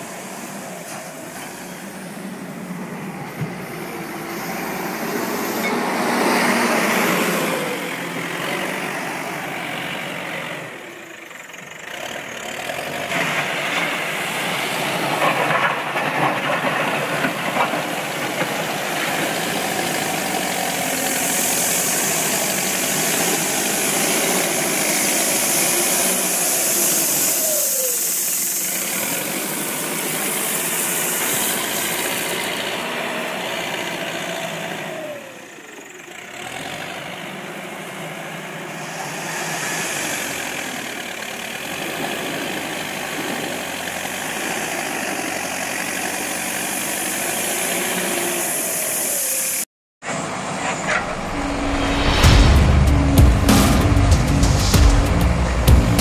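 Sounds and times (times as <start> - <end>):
backhoe diesel engine running: 0.0 - 56.0
loader bucket working earth: 0.0 - 56.0.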